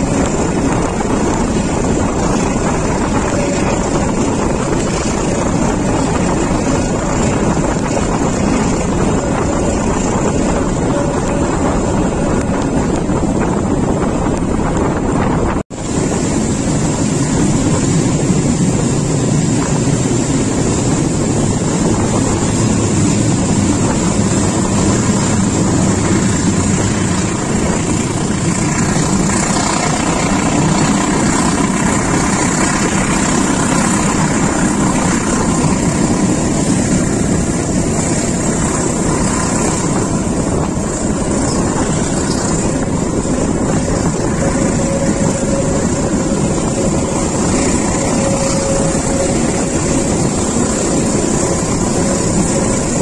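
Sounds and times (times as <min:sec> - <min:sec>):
rushing air: 0:00.0 - 0:53.0
train wheels rumbling on rails: 0:00.0 - 0:53.0.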